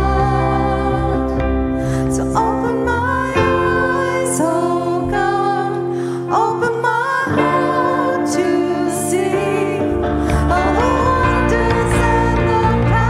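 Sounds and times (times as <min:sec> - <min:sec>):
worship band and singers: 0:00.0 - 0:13.0.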